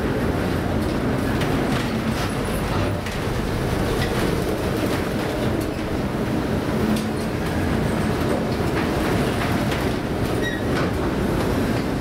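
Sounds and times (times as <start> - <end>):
ship rumbling in storm seas: 0.0 - 12.0.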